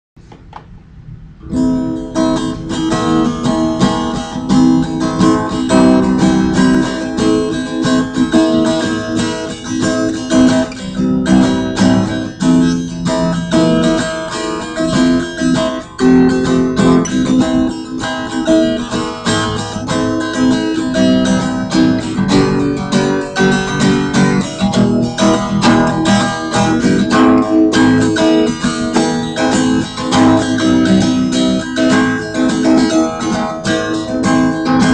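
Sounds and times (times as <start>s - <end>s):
strummed acoustic guitar chords: 1.4s - 34.9s.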